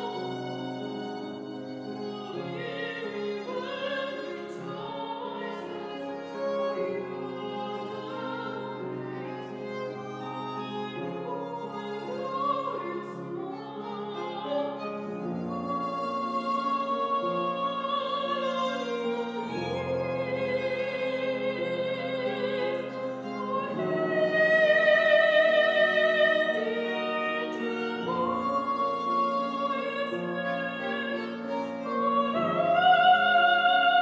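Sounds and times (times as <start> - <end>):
grand piano: 0.0 - 34.0
soprano singing: 0.0 - 34.0
violin: 0.0 - 34.0.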